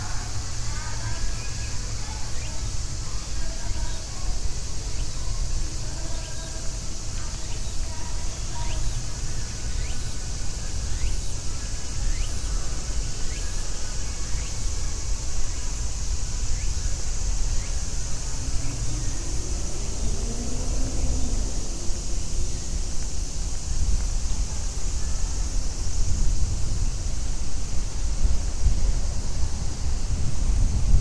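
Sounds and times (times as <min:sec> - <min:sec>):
faint voices: 0:00.0 - 0:31.0
low city rumble: 0:00.0 - 0:31.0
steady high hiss: 0:00.0 - 0:31.0.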